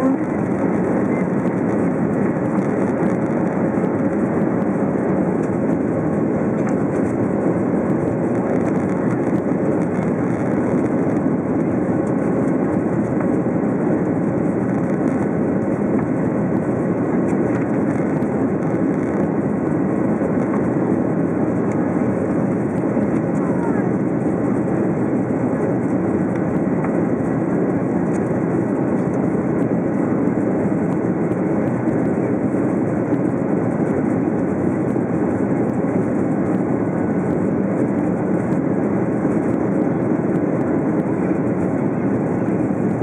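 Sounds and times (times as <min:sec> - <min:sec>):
jet engine rushing noise in cabin: 0:00.0 - 0:43.0.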